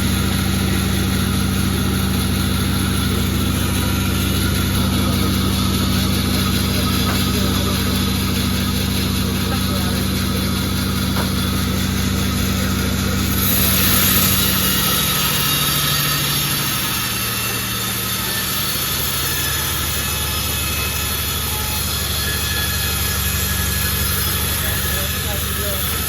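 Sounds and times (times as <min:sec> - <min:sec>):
sawmill motor humming: 0:00.0 - 0:26.0
saw blade hissing through wood: 0:00.4 - 0:26.0.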